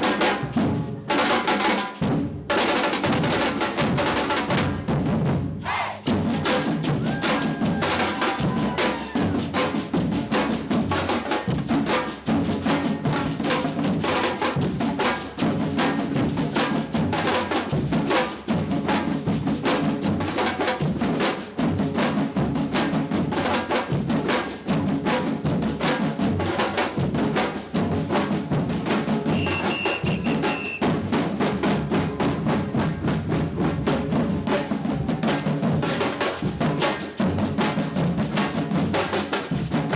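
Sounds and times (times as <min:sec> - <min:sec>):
samba percussion band: 0:00.0 - 0:39.9.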